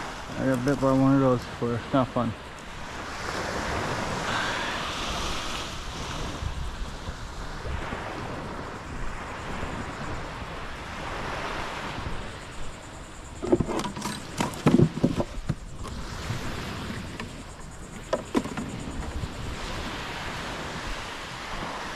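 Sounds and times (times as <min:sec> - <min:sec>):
surf washing onto beach: 0:00.0 - 0:21.9
wind on microphone: 0:00.0 - 0:21.9.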